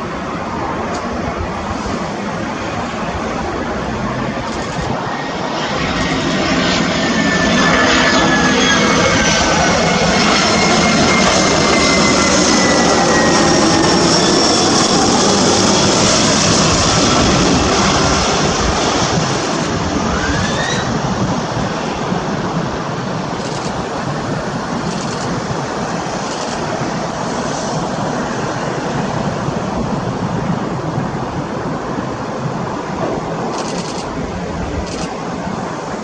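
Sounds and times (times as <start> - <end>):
jet airliner passing close by: 0.0 - 36.0
jet engine whine: 0.0 - 36.0.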